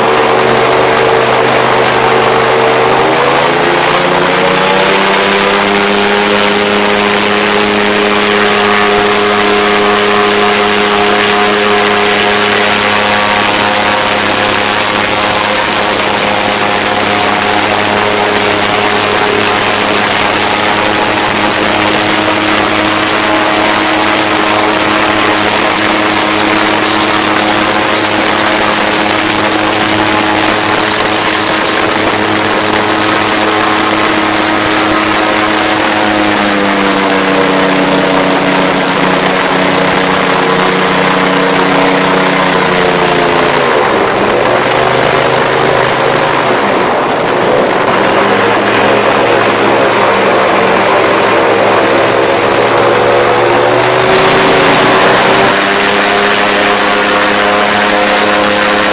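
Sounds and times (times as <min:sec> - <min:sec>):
airboat engine and propeller: 0:00.0 - 0:58.9.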